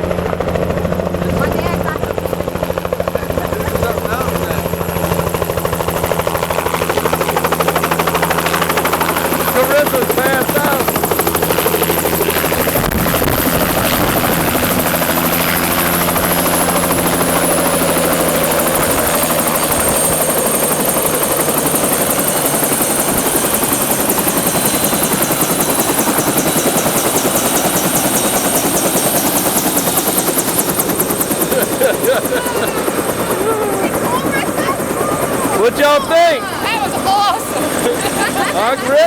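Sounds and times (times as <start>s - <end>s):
helicopter rotor and engine: 0.0s - 39.0s.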